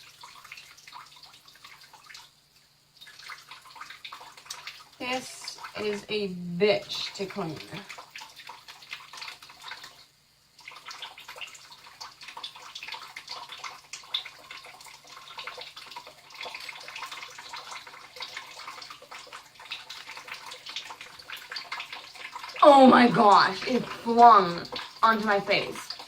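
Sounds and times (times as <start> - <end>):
tap water running: 0.0 - 26.0
water splashing: 3.0 - 10.0, 10.6 - 26.0.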